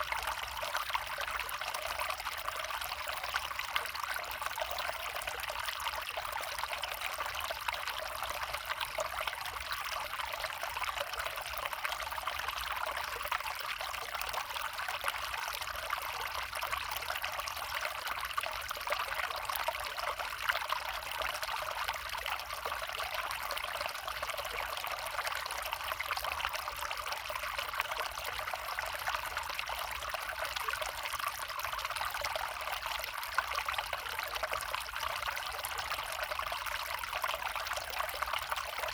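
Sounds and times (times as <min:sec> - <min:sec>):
brook flowing: 0:00.0 - 0:38.9.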